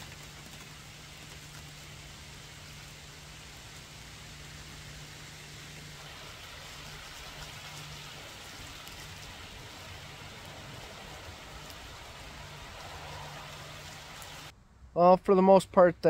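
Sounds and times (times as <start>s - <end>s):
steady rain: 0.0s - 14.6s.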